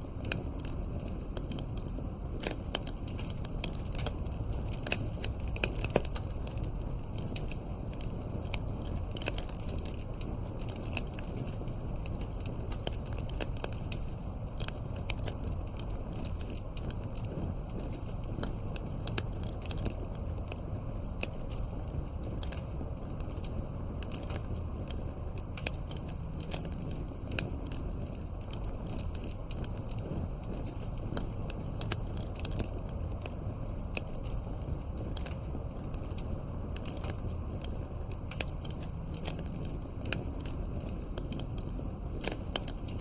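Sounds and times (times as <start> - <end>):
campfire crackling and popping: 0.0 - 43.0
low rumble of flames: 0.0 - 43.0.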